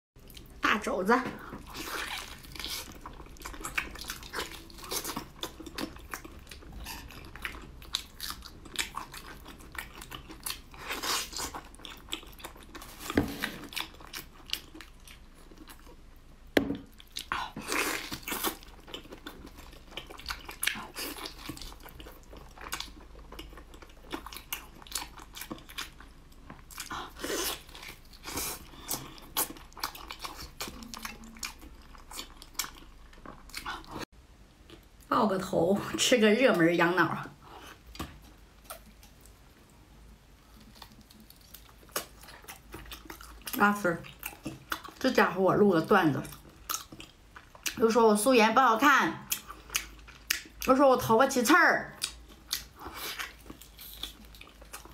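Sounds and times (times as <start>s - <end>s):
chewing meat: 0.2s - 0.6s, 1.4s - 35.1s, 40.4s - 48.2s, 49.1s - 51.1s, 51.8s - 54.9s.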